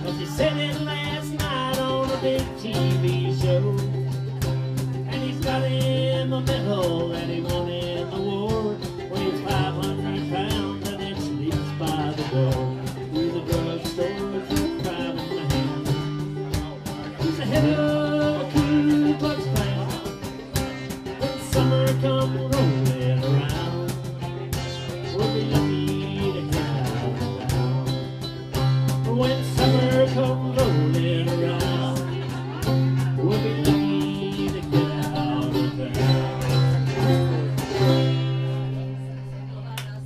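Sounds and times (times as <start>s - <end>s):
blues band guitars playing: 0.0s - 40.0s.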